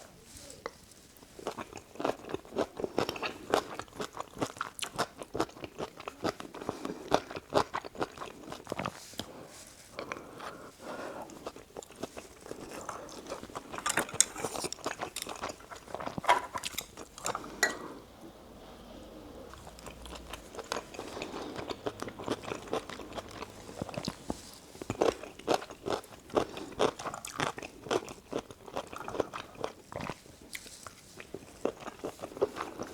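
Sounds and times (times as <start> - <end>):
person chewing food: 0.7 - 32.9.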